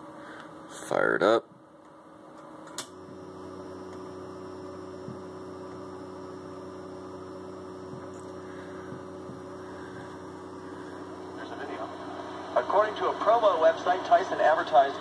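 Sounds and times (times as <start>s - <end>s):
radio humming with faint hiss: 0.0s - 15.0s.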